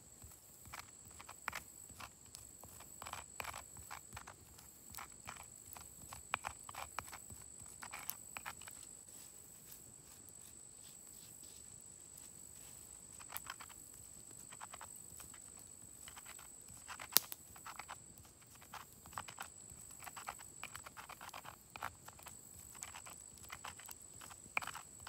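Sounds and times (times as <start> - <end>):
hand stone grinding grain: 0.4 - 9.0, 13.2 - 25.0.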